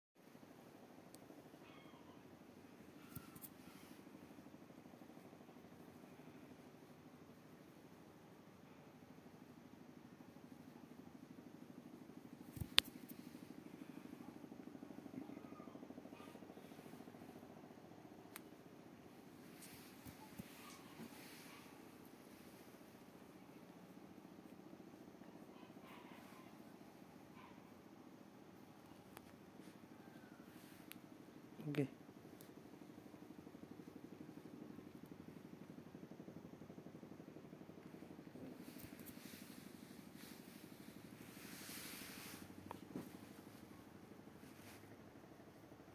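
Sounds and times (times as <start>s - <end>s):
cat purring: 0.4s - 45.9s.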